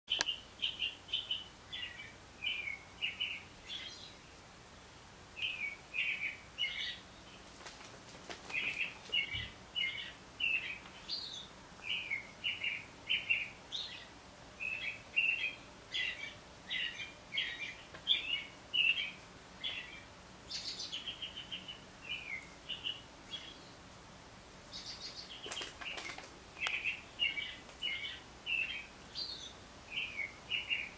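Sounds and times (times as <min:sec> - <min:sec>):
birds chirping and trilling: 0:00.1 - 0:23.9, 0:24.6 - 0:30.9.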